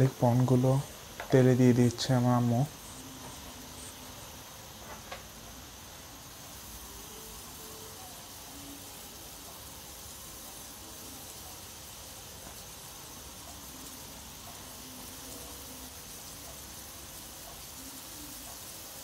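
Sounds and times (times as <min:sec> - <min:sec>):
prawns sizzling in oil: 0:00.0 - 0:19.0.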